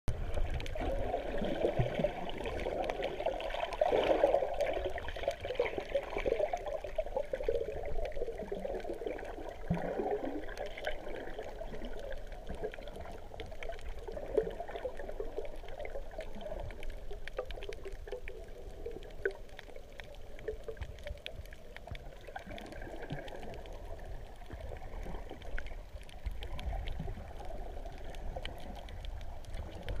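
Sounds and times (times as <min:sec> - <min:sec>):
water swishing and bubbling underwater: 0:00.1 - 0:30.0
faint clicks: 0:04.5 - 0:30.0.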